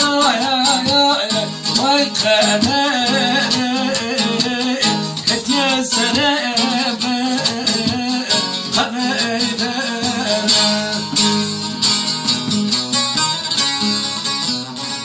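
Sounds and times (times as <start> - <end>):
man singing folk song: 0.0 - 15.0
sazes strummed: 0.0 - 15.0.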